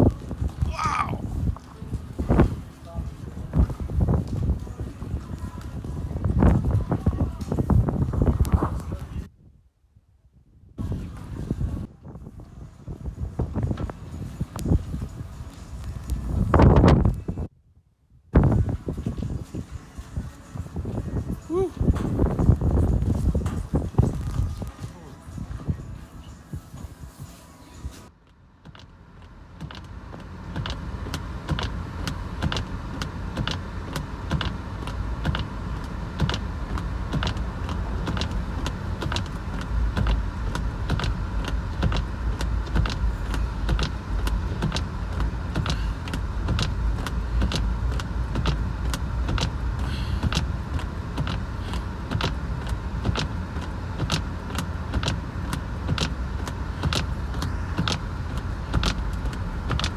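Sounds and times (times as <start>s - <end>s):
car road rumble: 0.0s - 9.3s, 10.7s - 17.5s, 18.4s - 59.9s.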